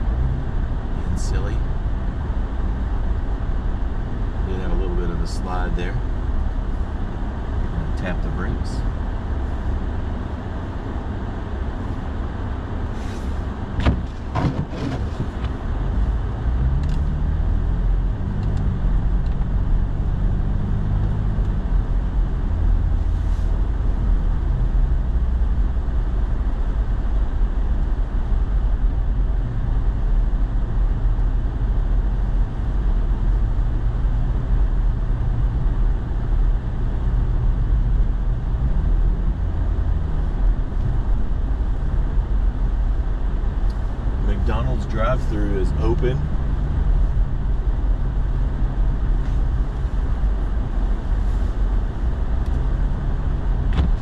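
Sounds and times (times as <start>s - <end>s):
truck engine and tyre noise: 0.0s - 54.0s.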